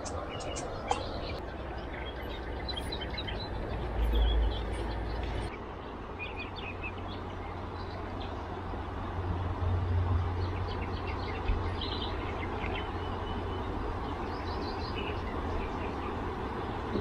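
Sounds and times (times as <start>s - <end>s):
small birds chirping: 0.0s - 17.0s
wind rumbling on microphone: 0.0s - 17.0s.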